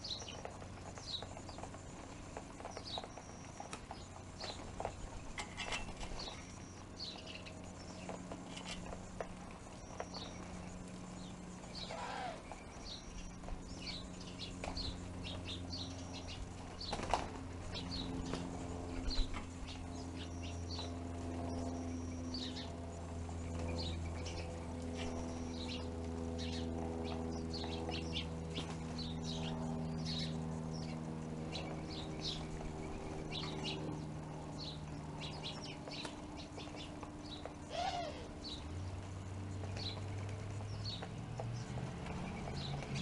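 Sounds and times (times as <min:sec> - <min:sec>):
small birds chirping: 0:00.0 - 0:43.0
steady low hum: 0:00.0 - 0:43.0
wing flutters: 0:00.0 - 0:43.0.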